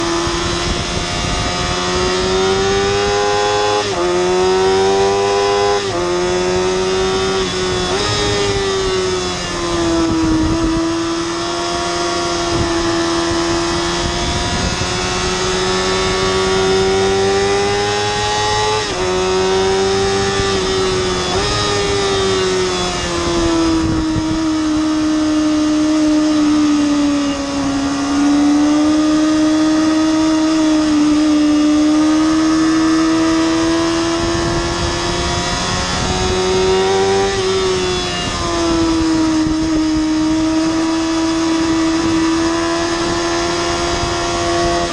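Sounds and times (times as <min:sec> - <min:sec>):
motorcycle engine wailing: 0:00.0 - 0:44.9.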